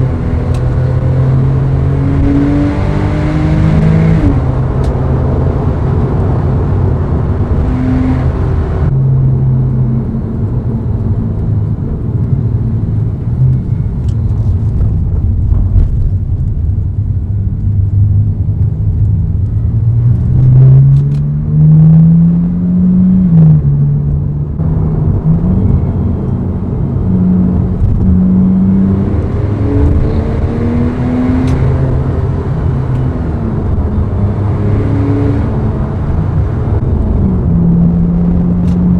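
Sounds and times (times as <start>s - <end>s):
car engine running while driving: 0.0s - 38.9s.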